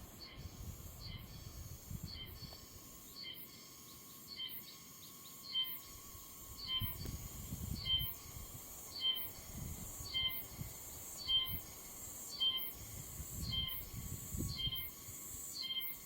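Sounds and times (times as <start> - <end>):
cicada song: 0.0 - 16.0.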